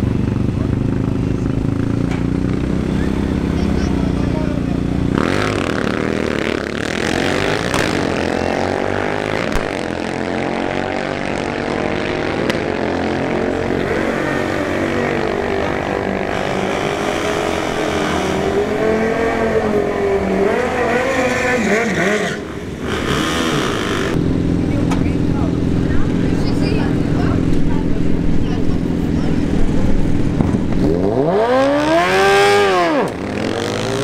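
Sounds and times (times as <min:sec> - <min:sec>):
motorcycles accelerating at full throttle: 0:00.0 - 0:34.0.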